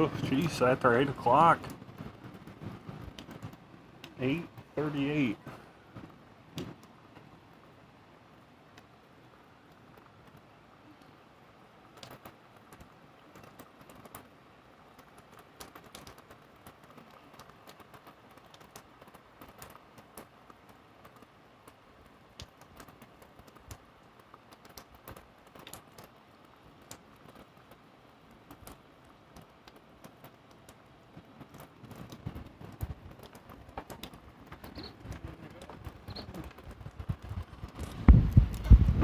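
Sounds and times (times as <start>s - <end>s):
rain hiss: 0.0s - 39.0s
raindrops ticking on hard surface: 0.0s - 39.0s.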